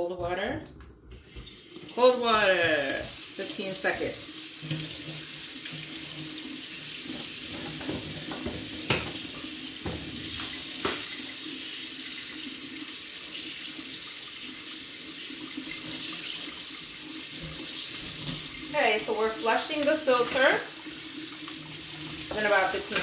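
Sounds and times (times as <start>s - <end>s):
water running into steel sink: 0.2s - 23.0s.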